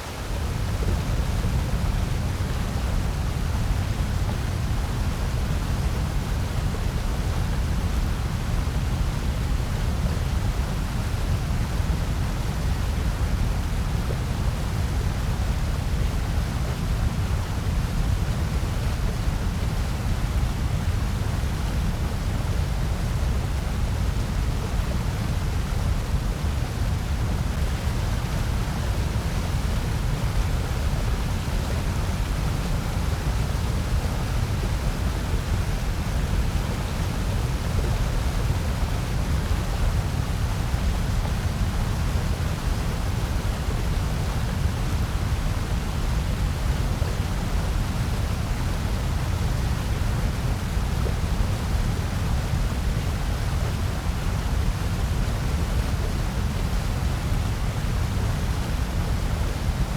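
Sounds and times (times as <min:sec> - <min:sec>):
white noise rush: 0:00.0 - 0:59.9.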